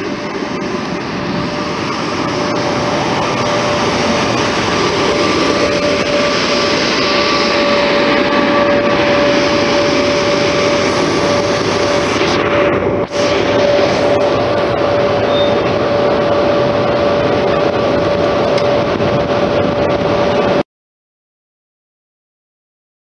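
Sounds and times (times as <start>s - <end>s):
electric locomotive passing: 0.0s - 20.6s
steady whine: 0.0s - 20.6s.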